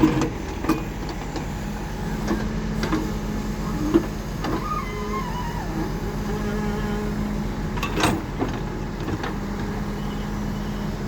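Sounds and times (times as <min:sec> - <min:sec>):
diesel machinery engine running: 0:00.0 - 0:11.0.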